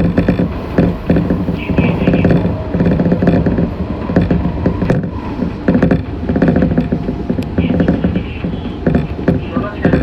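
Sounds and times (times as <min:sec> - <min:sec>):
train running hum: 0:00.0 - 0:10.0
train wheels clicking over rail joints: 0:00.0 - 0:10.0.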